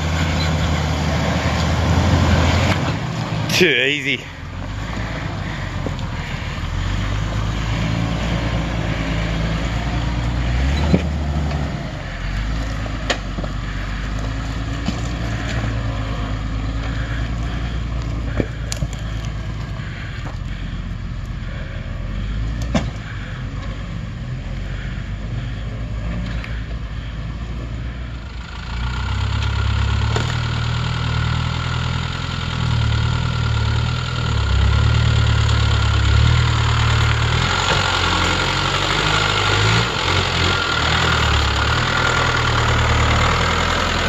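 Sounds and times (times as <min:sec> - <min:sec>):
car engine running at low revs: 0:00.0 - 0:44.0.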